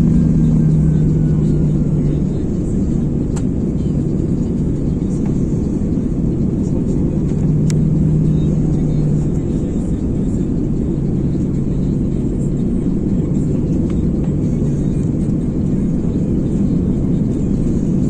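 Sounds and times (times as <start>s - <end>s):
aircraft cabin roar: 0.0s - 18.0s
low engine hum: 0.0s - 18.0s.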